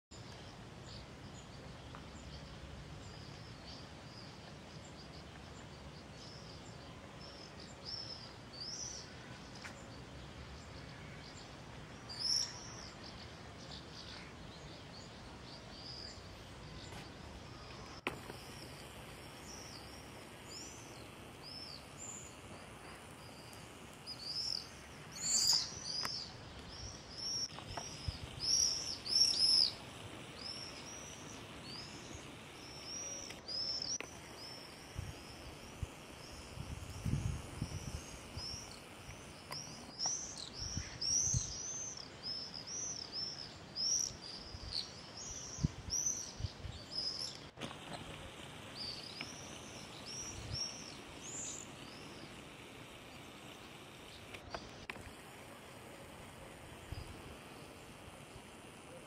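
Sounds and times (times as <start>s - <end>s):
faint steady hiss: 0.1s - 59.0s
flock of birds chirping: 0.1s - 59.0s.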